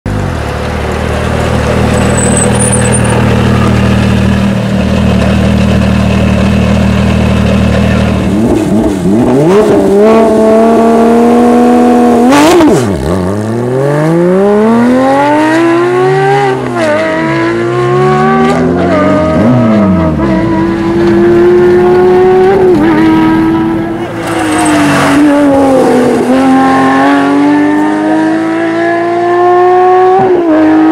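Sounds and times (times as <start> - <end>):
car engine revving: 0.2 - 30.9.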